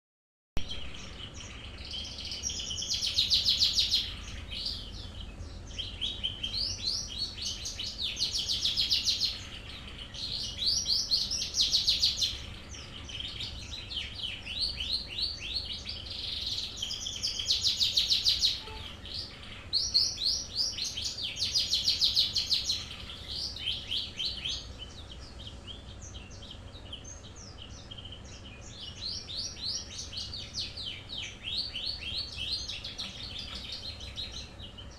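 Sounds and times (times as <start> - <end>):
songbird singing rapid notes: 0.6 - 34.9.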